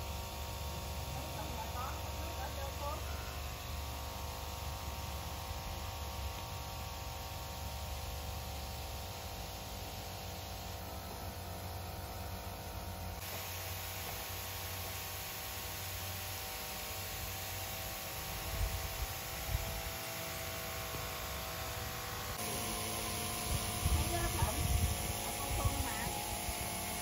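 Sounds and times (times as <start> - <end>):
pump humming: 0.0 - 27.0
water mist spraying hiss: 0.0 - 27.0.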